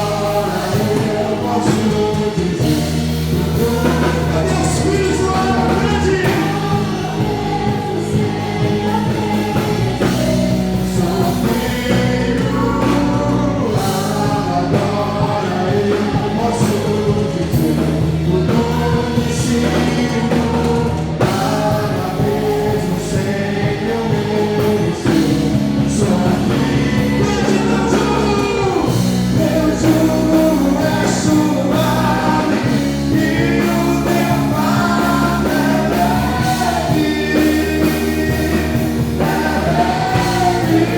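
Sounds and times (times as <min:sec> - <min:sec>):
praise band playing: 0:00.0 - 0:40.9
voices singing: 0:00.0 - 0:40.9.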